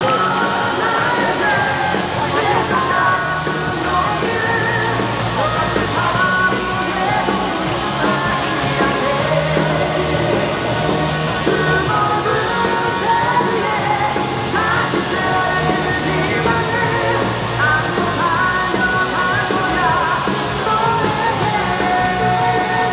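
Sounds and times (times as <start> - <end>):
loud rock music: 0.0 - 22.9
person singing: 0.0 - 22.9.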